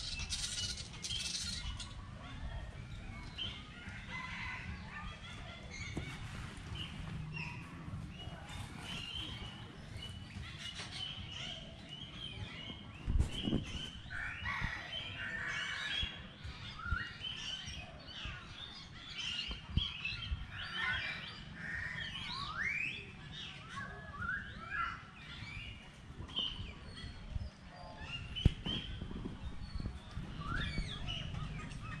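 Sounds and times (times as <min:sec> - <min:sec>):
birds chirping and whistling: 0:00.0 - 0:03.7, 0:06.8 - 0:32.0.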